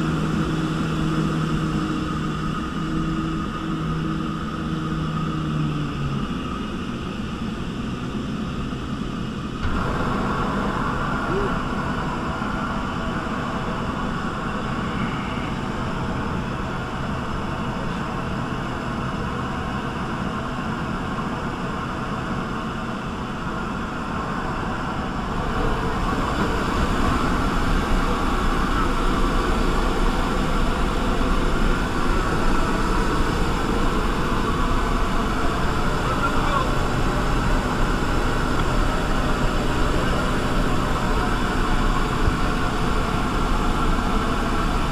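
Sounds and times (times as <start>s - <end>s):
aircraft engine and propeller drone: 0.0s - 44.9s.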